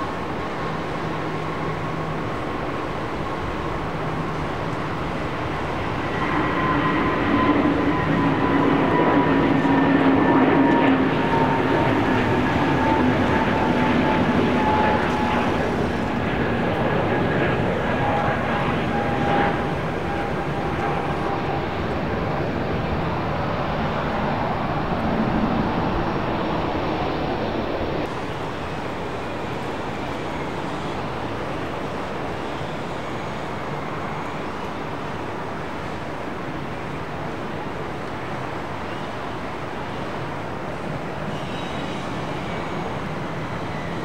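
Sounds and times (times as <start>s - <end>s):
jet engines rushing: 0.0s - 41.4s
faint engine whine: 0.0s - 44.0s.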